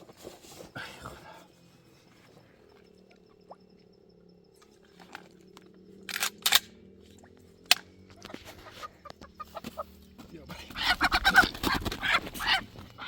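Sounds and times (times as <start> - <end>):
faint low hum: 0.0 - 11.7.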